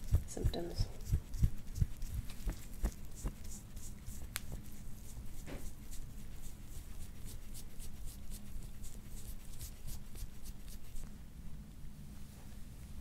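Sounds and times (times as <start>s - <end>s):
scraping strokes over oiled skin: 0.0s - 11.1s.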